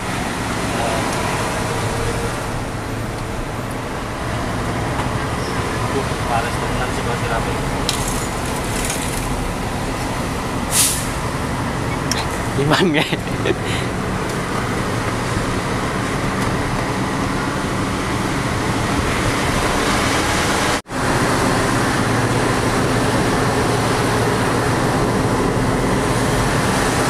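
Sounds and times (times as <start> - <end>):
heavy truck engine drone: 0.0 - 27.0
road noise: 0.0 - 27.0.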